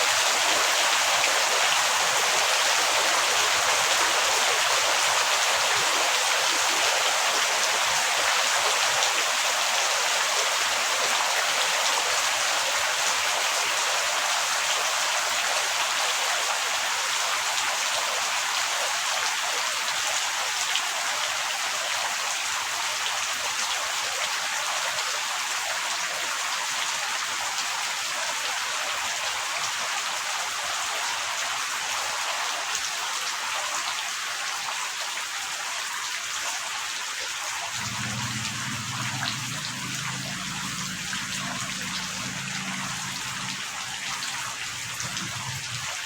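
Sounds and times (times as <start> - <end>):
heavy rain: 0.0 - 34.8, 37.3 - 46.0.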